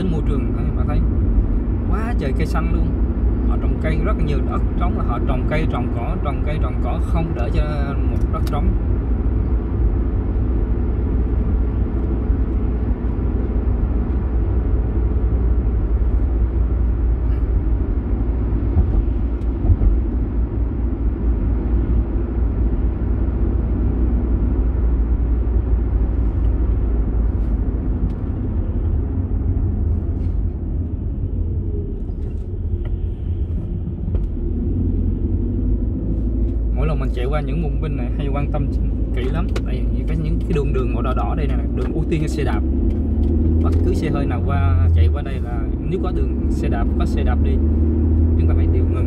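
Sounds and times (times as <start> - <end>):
car engine and tyre rumble: 0.0 - 49.0.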